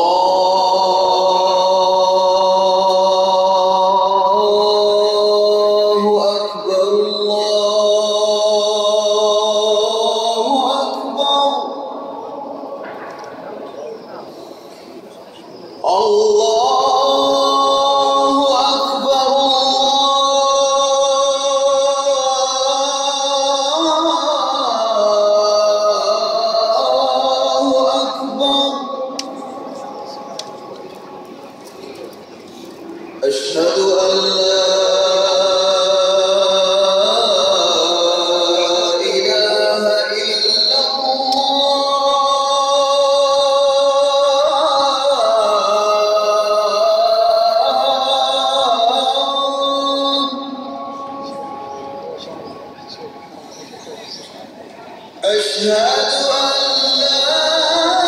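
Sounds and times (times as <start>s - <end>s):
man chanting over loudspeakers: 0.0s - 32.2s, 32.8s - 58.0s.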